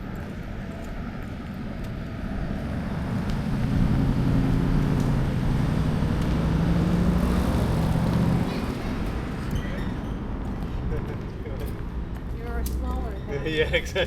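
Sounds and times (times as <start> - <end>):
car approaching: 0.0 - 14.0.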